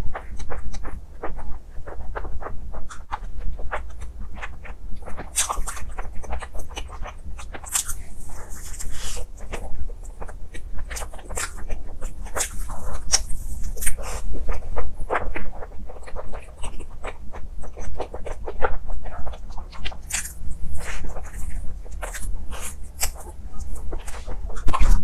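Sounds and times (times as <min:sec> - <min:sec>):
chewing and lip-smacking: 0:00.1 - 0:25.0.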